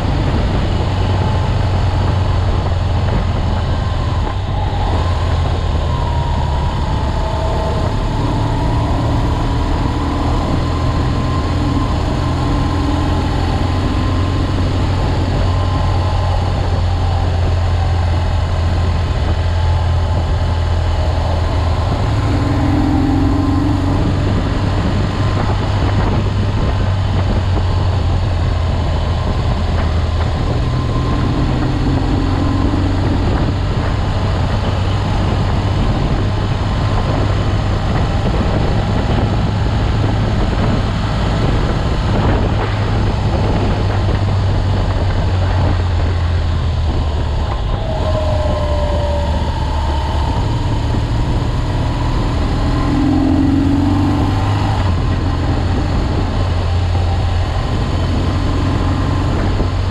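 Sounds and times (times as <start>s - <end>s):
motorcycle engine running: 0.0s - 59.9s
road noise: 0.0s - 59.9s
wind noise: 0.0s - 59.9s.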